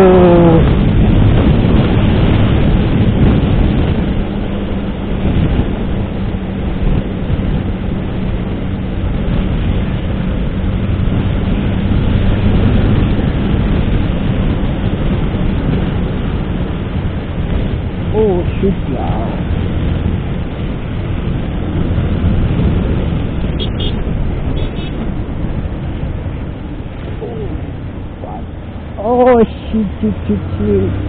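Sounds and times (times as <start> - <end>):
motorcycle engine hum: 0.0 - 31.0
wind buffeting microphone: 0.0 - 31.0.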